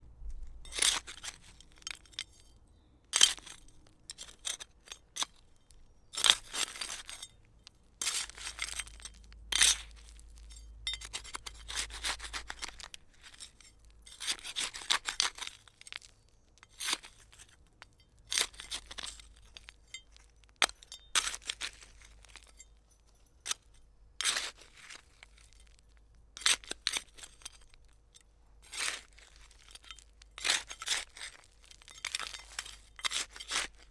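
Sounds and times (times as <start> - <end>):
trowel scraping gritty soil: 0.2 - 7.4, 8.0 - 17.6, 18.3 - 25.8, 28.6 - 33.9.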